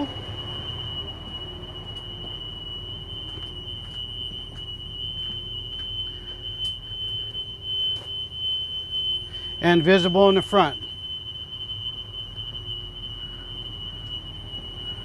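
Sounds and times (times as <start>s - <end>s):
high-pitched alarm buzzer: 0.0s - 15.0s.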